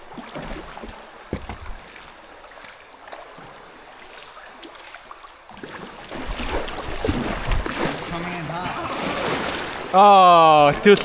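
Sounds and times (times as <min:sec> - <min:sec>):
paddle splashing water: 0:00.0 - 0:11.0.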